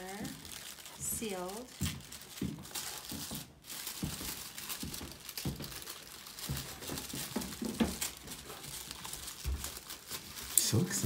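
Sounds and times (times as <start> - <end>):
tissue paper rustling: 0.0 - 11.0.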